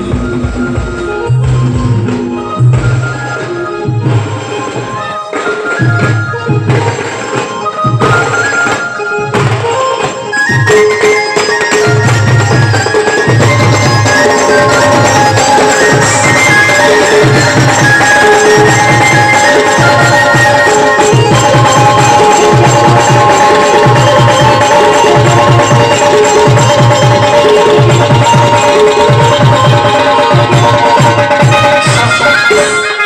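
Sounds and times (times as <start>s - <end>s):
band music with held notes: 0.0s - 33.0s
driving drum beat: 0.0s - 33.0s.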